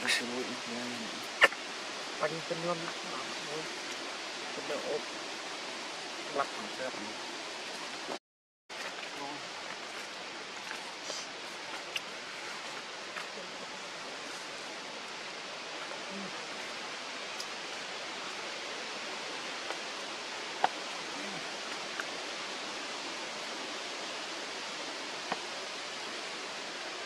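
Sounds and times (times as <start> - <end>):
outdoor background hiss: 0.0 - 27.0.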